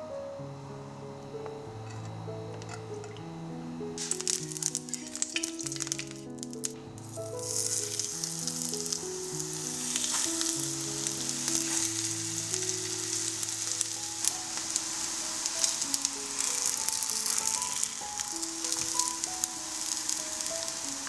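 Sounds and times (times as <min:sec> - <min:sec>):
food frying in hot oil: 0:04.0 - 0:21.0.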